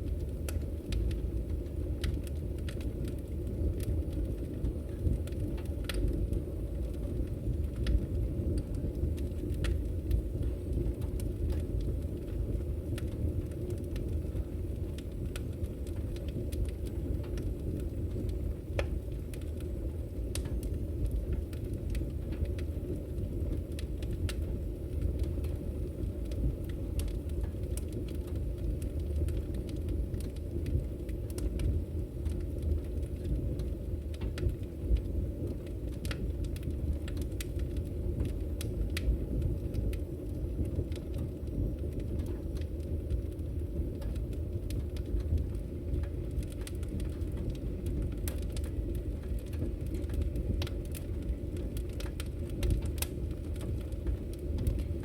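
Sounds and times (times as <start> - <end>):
firewood burning with crackles: 0.0 - 55.0.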